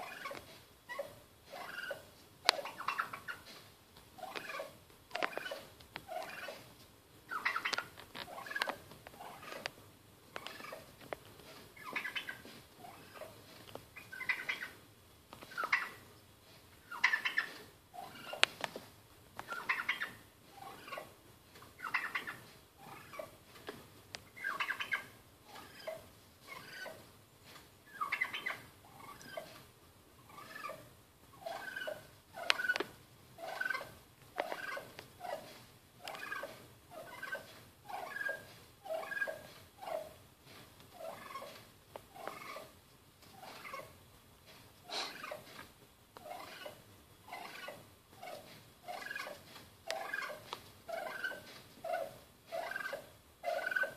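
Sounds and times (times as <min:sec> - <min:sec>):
turkey calling: 0:00.0 - 0:03.6, 0:04.2 - 0:06.7, 0:07.3 - 0:09.7, 0:10.4 - 0:10.9, 0:11.5 - 0:13.4, 0:14.0 - 0:14.8, 0:15.4 - 0:16.0, 0:16.8 - 0:18.5, 0:19.4 - 0:23.4, 0:24.3 - 0:27.0, 0:27.9 - 0:29.6, 0:30.2 - 0:40.2, 0:40.9 - 0:42.8, 0:43.4 - 0:44.0, 0:44.8 - 0:45.6, 0:46.2 - 0:53.9.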